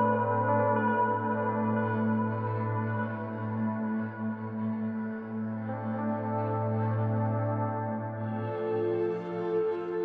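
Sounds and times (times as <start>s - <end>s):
ambient music with held tones: 0.0s - 10.0s.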